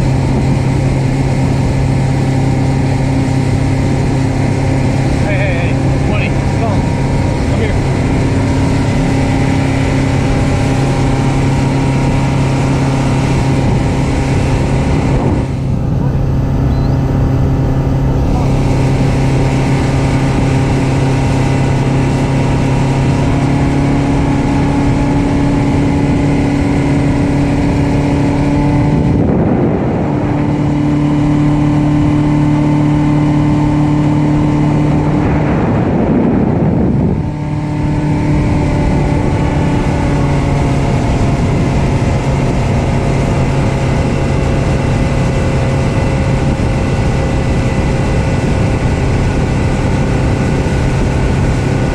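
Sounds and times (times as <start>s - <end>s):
outboard motor running: 0.0s - 51.9s.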